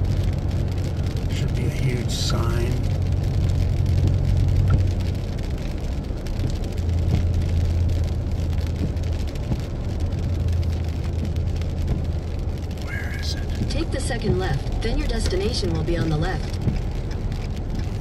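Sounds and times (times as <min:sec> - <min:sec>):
vehicle engine and tyres droning: 0:00.0 - 0:18.0.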